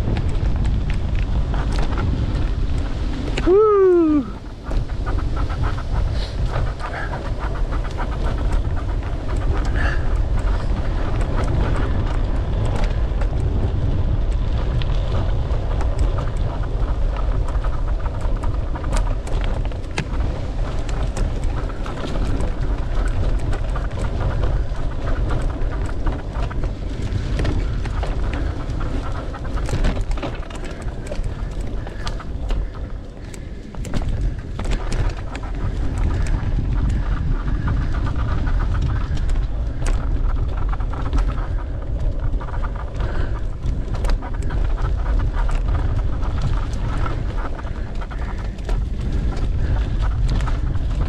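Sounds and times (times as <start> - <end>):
bike knocks and rattles: 0.0 - 51.0
wind rumbling on microphone: 0.0 - 51.0.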